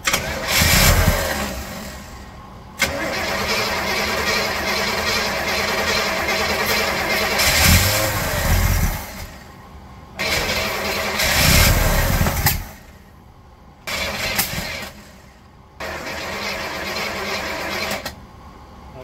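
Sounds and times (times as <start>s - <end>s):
car engine cranking: 0.0s - 9.5s, 10.2s - 13.1s, 13.8s - 18.2s.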